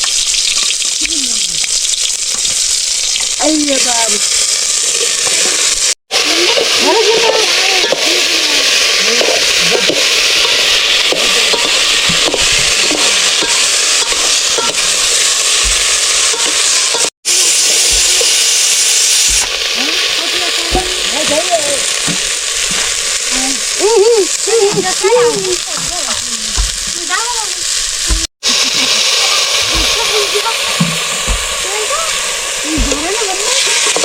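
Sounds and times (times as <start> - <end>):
vegetables sizzling in oil: 0.0 - 34.0
stirring in a pan: 4.8 - 34.0.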